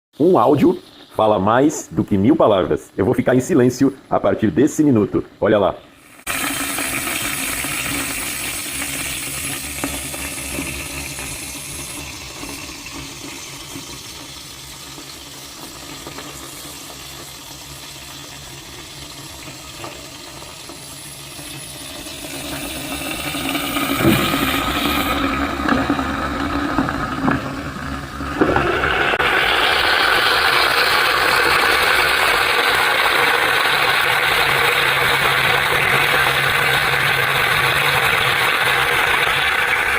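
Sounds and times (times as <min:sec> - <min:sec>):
steam hissing: 0:05.9 - 0:39.9.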